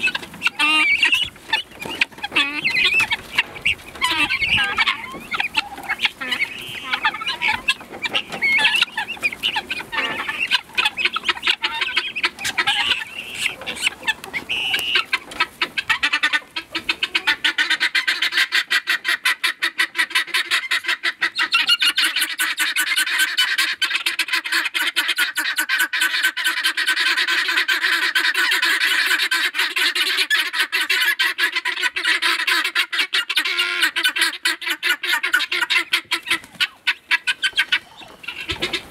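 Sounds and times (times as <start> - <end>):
guineafowl calling: 0.0 - 38.9.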